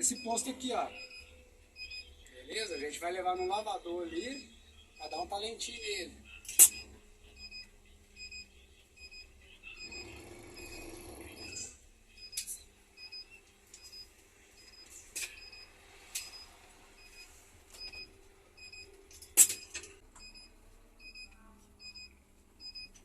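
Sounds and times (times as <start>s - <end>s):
electronic warning beeper: 0.0s - 19.0s, 19.6s - 22.9s.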